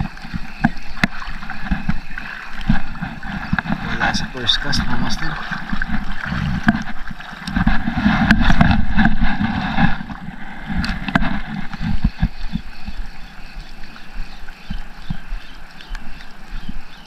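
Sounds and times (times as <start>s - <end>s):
moving water: 0.0s - 17.0s
wind buffeting microphone: 0.0s - 17.0s.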